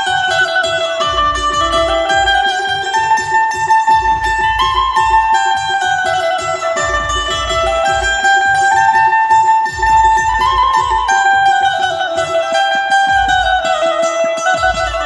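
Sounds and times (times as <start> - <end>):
keyed banjo plucked melody: 0.0 - 15.0
low drum beat: 0.0 - 15.0.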